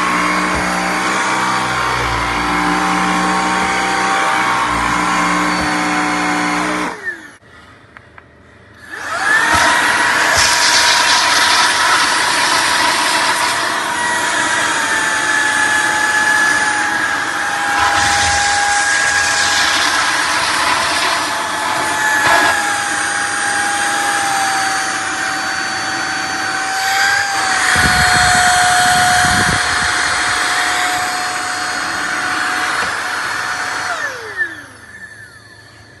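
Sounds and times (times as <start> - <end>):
vacuum cleaner motor whine: 0.0 - 7.4, 8.8 - 36.0.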